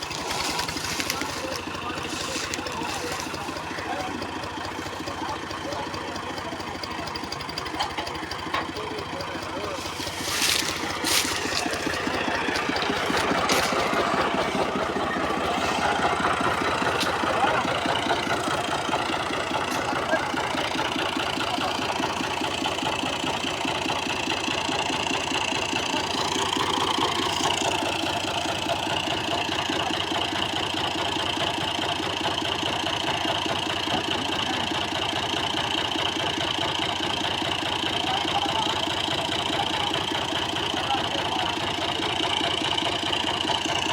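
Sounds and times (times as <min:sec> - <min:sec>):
tractor engine running: 0:00.0 - 0:43.9.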